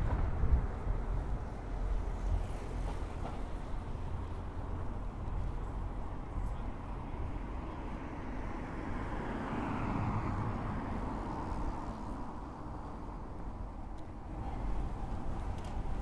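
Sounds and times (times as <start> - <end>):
steady road hum: 0.0 - 16.0.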